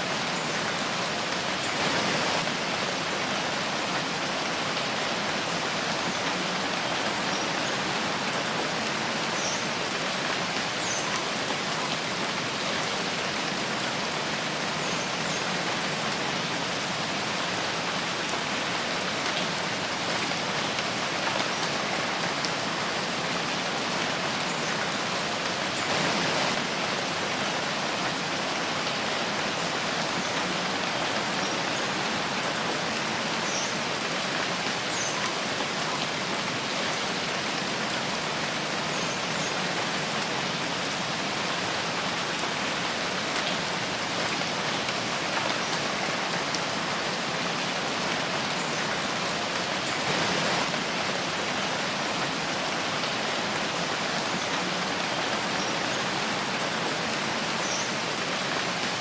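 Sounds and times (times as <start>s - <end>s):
rain on leaves: 0.0s - 59.0s.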